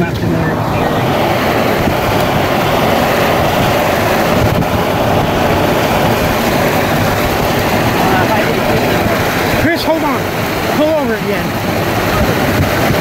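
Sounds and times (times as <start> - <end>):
tyre road noise: 0.0 - 13.0
wind and rain on car: 0.0 - 13.0.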